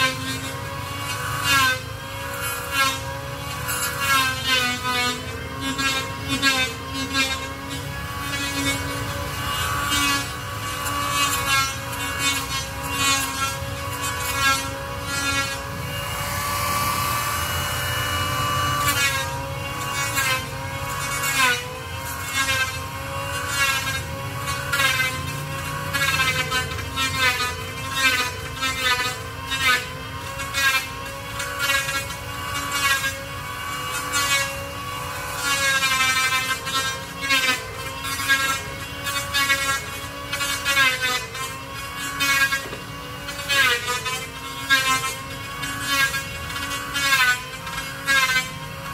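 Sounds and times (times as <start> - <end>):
hand saw cutting wood: 0.0 - 48.9.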